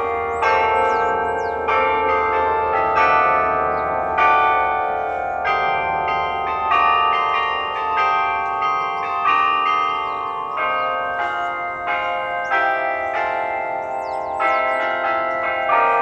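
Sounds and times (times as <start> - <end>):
clock bells playing a slow tune: 0.0 - 16.0.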